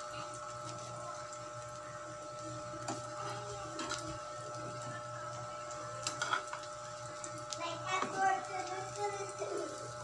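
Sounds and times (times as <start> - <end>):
omelette sizzling in hot oil: 0.0 - 10.0.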